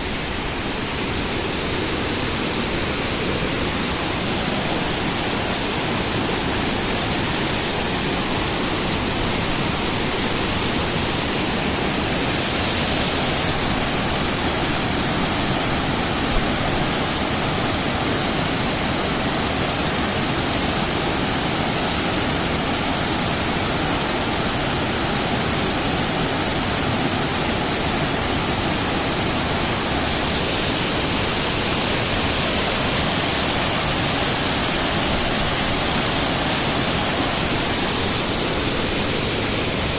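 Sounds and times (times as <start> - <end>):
rushing water roar: 0.0 - 39.9.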